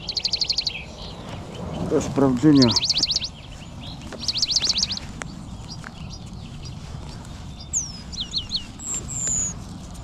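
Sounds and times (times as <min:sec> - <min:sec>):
songbird trilling: 0:00.0 - 0:09.6.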